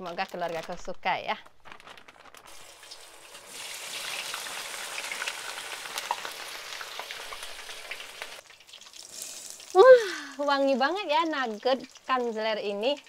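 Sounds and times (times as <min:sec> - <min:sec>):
hot oil sizzling: 0:02.4 - 0:13.0.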